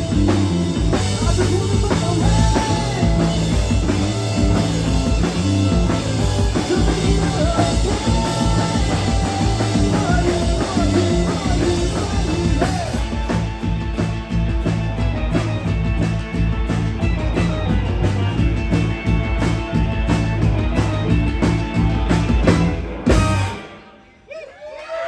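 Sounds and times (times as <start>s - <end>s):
live rock band playing: 0.0s - 24.3s.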